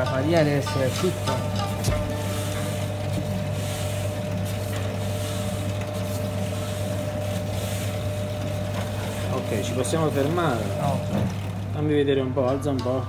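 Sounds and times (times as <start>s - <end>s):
dough mixer motor hum and whine: 0.0s - 12.4s.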